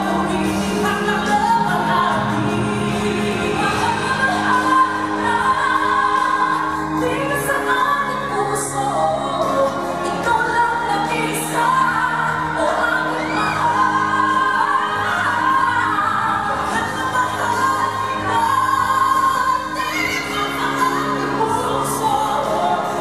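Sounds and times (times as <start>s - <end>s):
woman belting a pop ballad: 0.0s - 23.0s.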